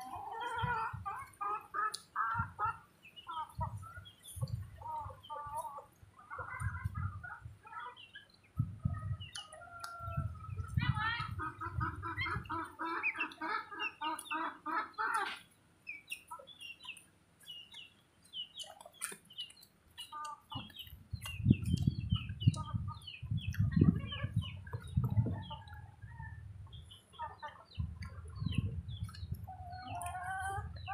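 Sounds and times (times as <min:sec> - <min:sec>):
chicken clucking: 0:00.0 - 0:30.9.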